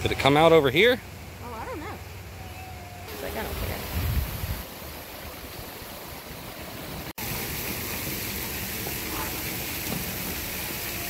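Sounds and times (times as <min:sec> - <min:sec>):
waterfall rushing: 0:01.2 - 0:11.0.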